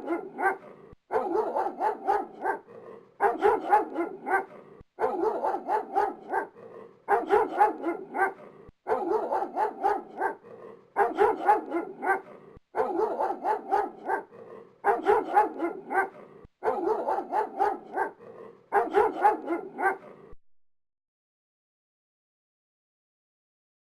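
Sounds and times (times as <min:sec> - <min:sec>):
dog barking: 0:00.0 - 0:20.4.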